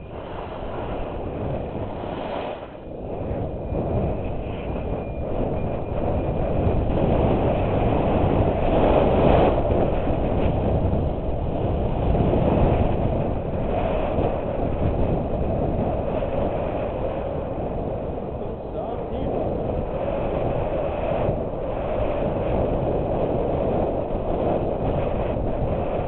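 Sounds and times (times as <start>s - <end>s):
wind rushing: 0.0s - 26.0s.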